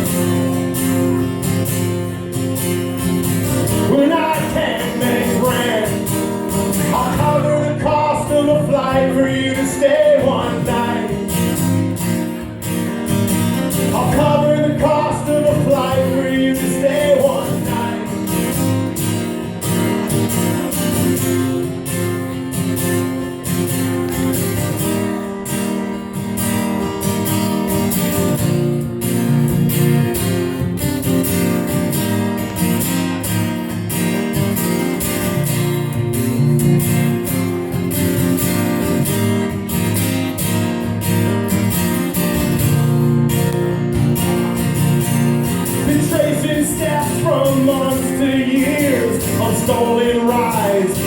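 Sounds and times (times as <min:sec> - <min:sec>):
acoustic guitar strumming: 0:00.0 - 0:51.0.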